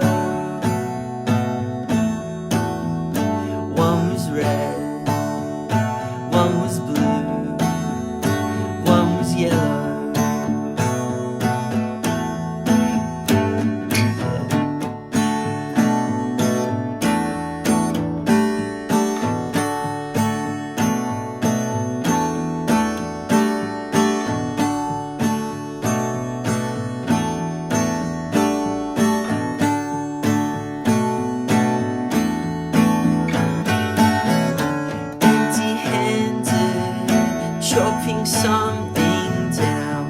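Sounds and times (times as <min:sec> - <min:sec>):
acoustic guitar chords: 0:00.0 - 0:40.0.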